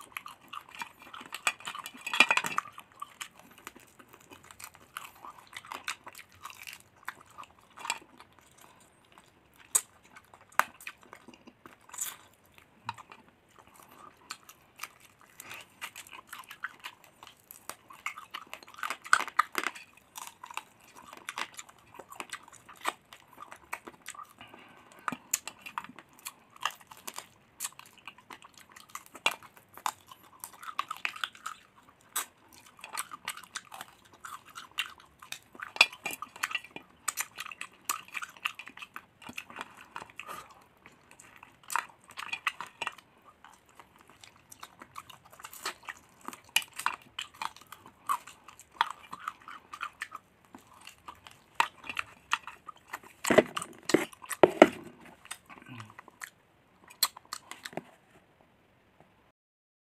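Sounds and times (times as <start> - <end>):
crunching and wet chewing: 0.0 - 58.3.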